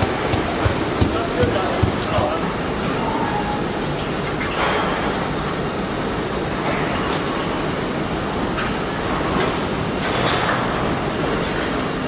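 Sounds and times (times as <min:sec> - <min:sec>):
machinery hum and hiss: 0:00.0 - 0:12.0.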